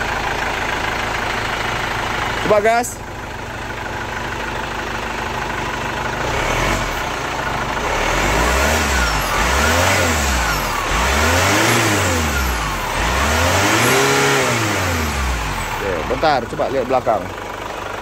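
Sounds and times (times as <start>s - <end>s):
diesel engine idling and revving: 0.0s - 18.0s.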